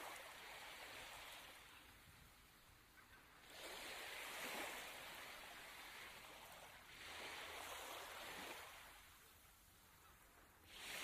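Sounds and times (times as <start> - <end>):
small waves on sandy shore: 0.0 - 11.0.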